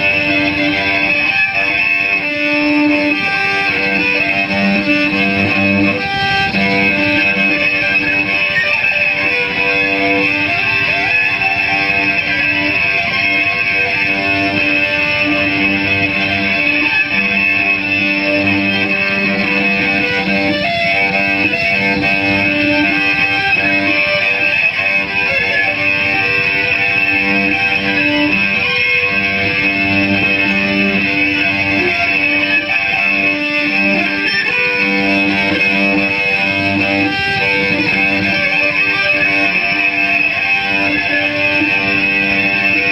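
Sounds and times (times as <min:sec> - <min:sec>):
high ringing feedback tone: 0:00.0 - 0:42.9
amplified cello low droning notes: 0:02.2 - 0:08.6, 0:09.2 - 0:32.3, 0:33.1 - 0:39.7.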